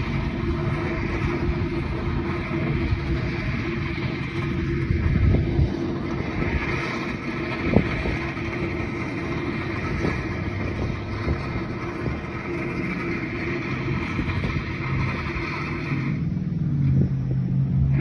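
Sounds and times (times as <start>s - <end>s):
mechanical hiss: 0.0s - 16.4s
engine hum: 0.0s - 18.0s.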